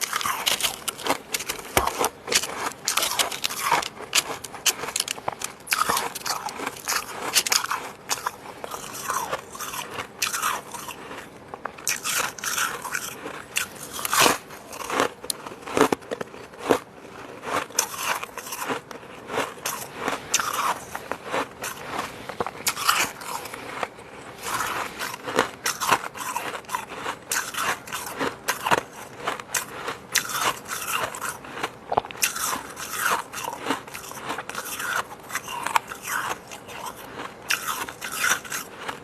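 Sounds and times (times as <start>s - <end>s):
chewing frost crunches: 0.0s - 39.0s.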